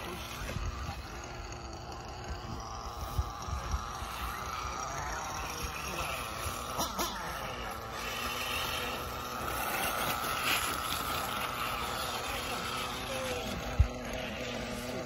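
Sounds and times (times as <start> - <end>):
toy car motor whining: 0.0 - 15.0.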